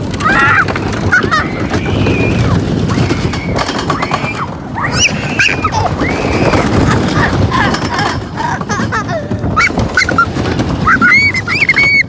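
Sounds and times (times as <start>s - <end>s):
riders screaming: 0.0s - 8.2s, 9.4s - 12.0s
wind buffeting microphone: 0.0s - 12.0s.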